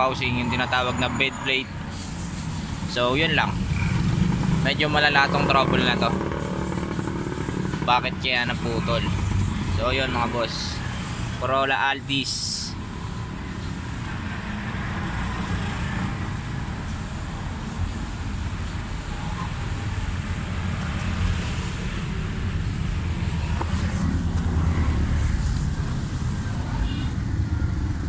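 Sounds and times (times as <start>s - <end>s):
motor vehicles rumbling: 0.0s - 28.0s.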